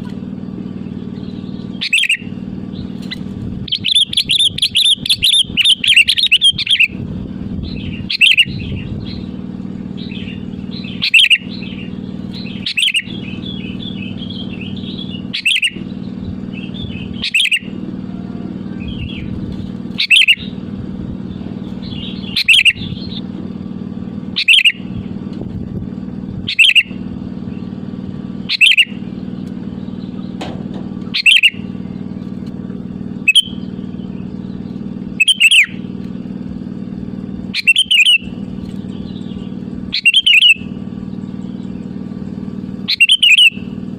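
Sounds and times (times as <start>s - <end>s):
bird calling: 0.0s - 23.4s, 24.2s - 25.2s, 26.4s - 43.9s
bird twittering: 0.0s - 23.4s, 24.2s - 25.2s, 26.4s - 32.4s, 33.0s - 43.9s
steady low hum: 0.0s - 43.9s.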